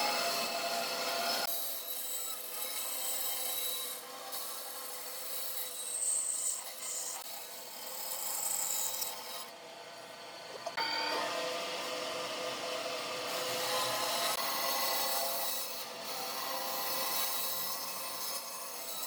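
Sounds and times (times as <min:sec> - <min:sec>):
tool scraping and rasping wood: 0:00.0 - 0:09.6, 0:13.0 - 0:19.0.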